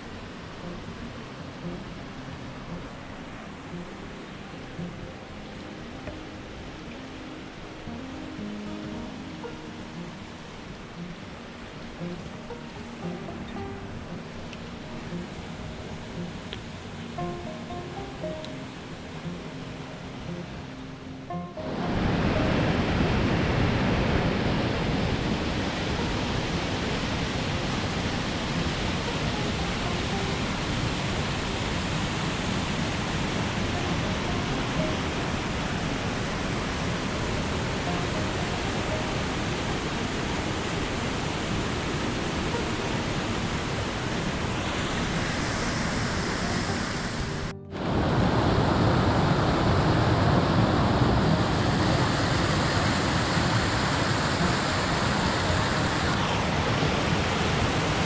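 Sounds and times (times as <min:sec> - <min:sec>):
mountain creek and waterfall rushing: 0:00.0 - 0:58.0.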